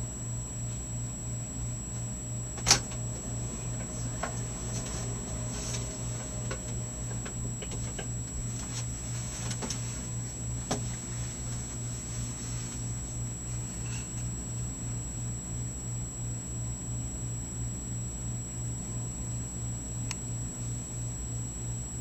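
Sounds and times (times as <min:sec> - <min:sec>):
electric fireplace hum: 0:00.0 - 0:22.0.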